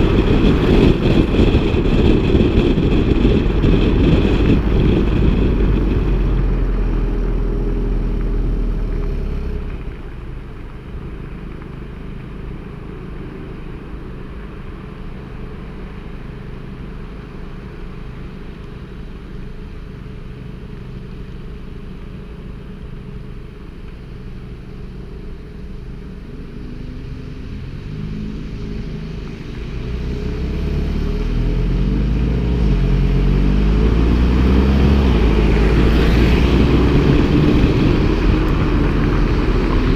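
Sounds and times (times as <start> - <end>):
car engine through exhaust: 0.0 - 39.9.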